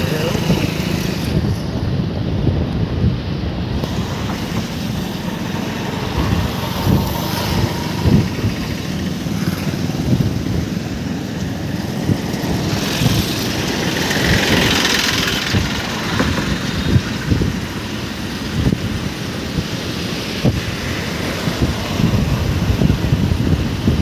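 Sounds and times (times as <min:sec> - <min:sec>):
vehicle road noise: 0:00.0 - 0:24.0
wind buffeting microphone: 0:00.0 - 0:24.0.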